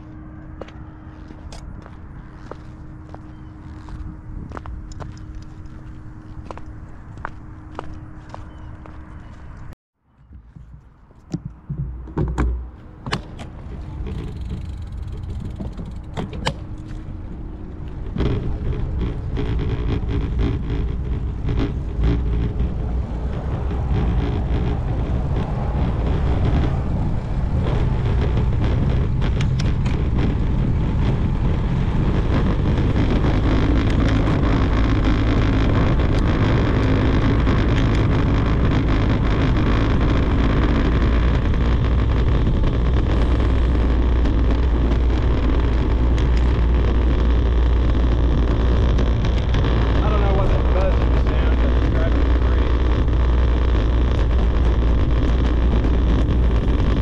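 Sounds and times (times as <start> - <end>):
wind buffeting microphone: 0.0 - 57.0
bicycle tyres rolling over bricks: 10.3 - 57.0.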